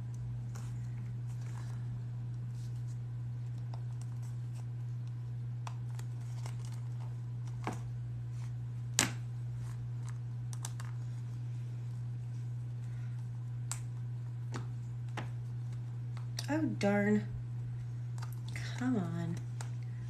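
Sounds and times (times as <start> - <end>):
room fan humming: 0.0 - 20.0.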